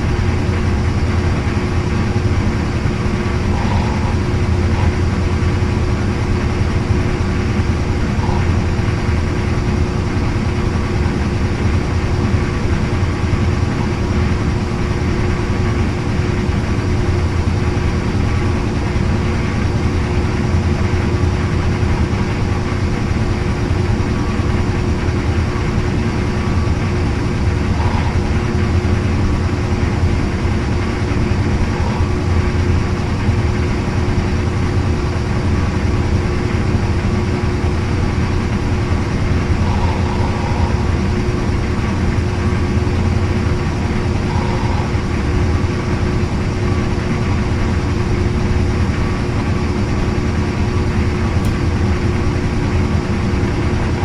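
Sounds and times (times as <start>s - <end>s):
constant tone: 0.0s - 54.0s
washing machine motor hum: 0.0s - 54.0s.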